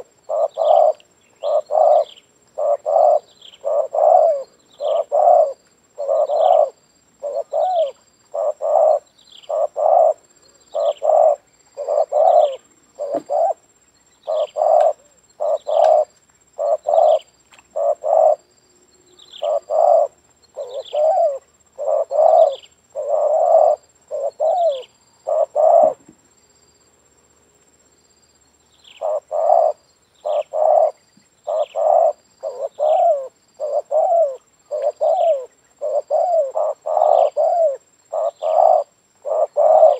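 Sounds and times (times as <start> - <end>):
dove cooing: 0.0 - 18.4, 19.3 - 26.0, 28.9 - 39.9.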